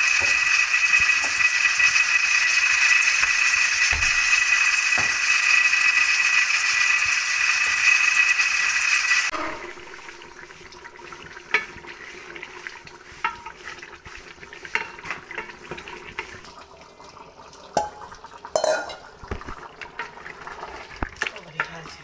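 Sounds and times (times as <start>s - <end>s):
spoon stirring in metal pot: 0.0s - 9.2s, 10.4s - 16.5s, 17.8s - 21.0s.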